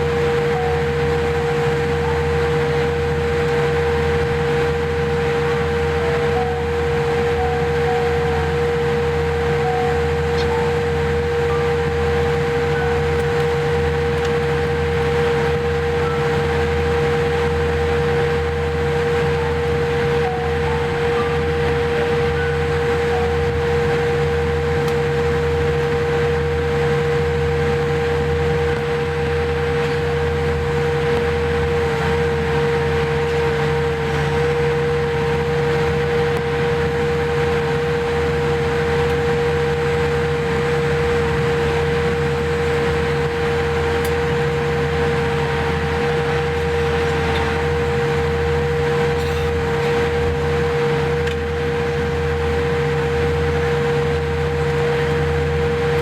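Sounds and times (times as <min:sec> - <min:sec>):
aircraft cabin hum: 0:00.0 - 0:56.0
steady mid-pitched tone: 0:00.0 - 0:56.0.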